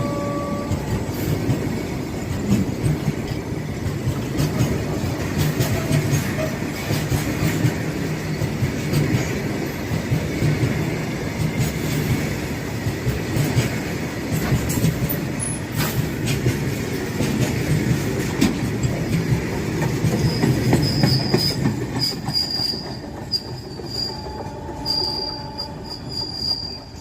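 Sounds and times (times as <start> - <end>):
steel wheels rumbling on rail: 0.0 - 27.0
wheels clicking over rail joints: 0.6 - 26.2.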